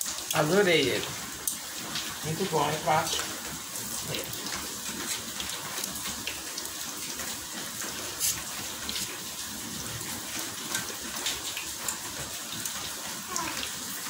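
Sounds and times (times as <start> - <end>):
oil sizzling with crackles and pops: 0.0 - 14.0.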